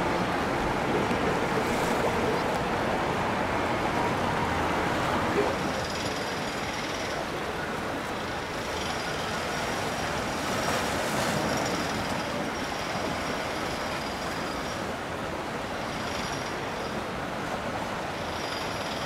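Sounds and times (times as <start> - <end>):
boat engines rumbling: 0.0 - 19.0.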